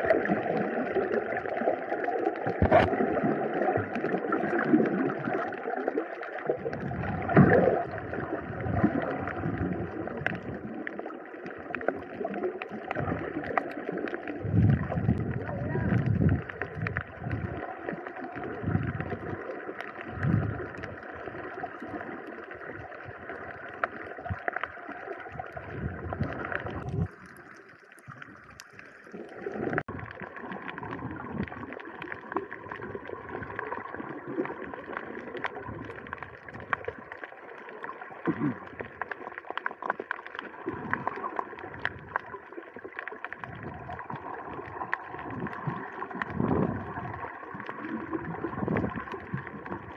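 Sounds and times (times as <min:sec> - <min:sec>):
water sloshing and gurgling: 0:00.0 - 0:49.9
small crackling clicks: 0:08.8 - 0:49.9.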